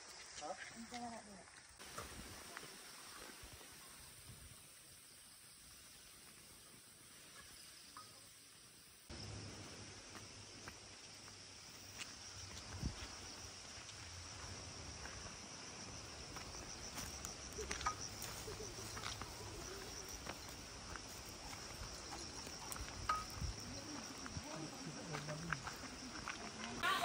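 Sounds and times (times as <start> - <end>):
footsteps on dirt path: 0.0 - 3.9, 9.1 - 27.0
insects chirring: 0.0 - 27.0.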